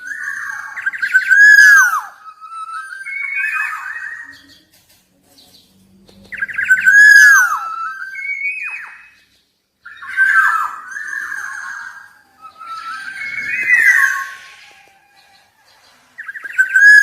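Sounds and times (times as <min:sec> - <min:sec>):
bird fluty whistled song: 0:00.0 - 0:04.8, 0:06.2 - 0:17.0.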